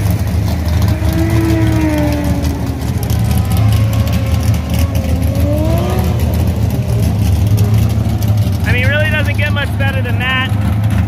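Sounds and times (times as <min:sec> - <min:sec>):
car engines rumbling: 0:00.0 - 0:11.0
engine revving: 0:00.0 - 0:11.0.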